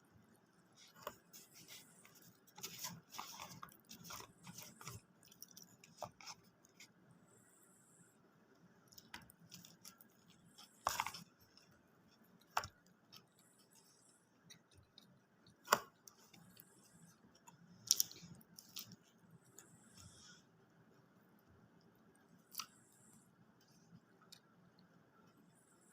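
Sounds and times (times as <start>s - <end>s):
quiet chewing: 0.1s - 7.0s, 8.5s - 25.4s.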